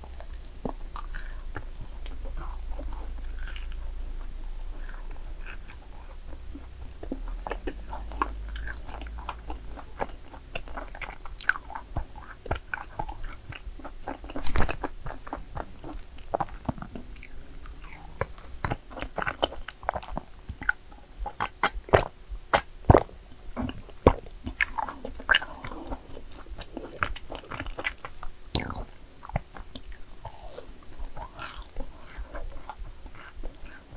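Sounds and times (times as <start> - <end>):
crisp chewing crunches: 0.0 - 33.9.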